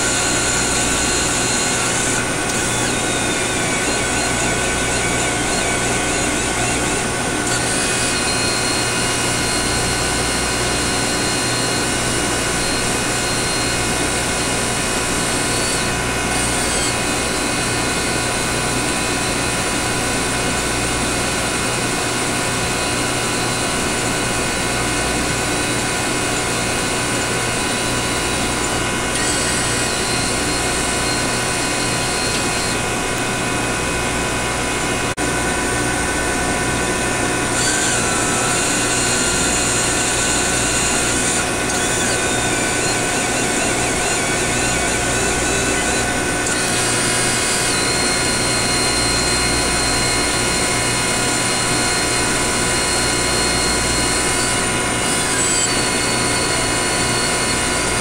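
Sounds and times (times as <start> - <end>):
hum of pumps and electronics: 0.0 - 58.0
stepper motor whining: 0.0 - 58.0.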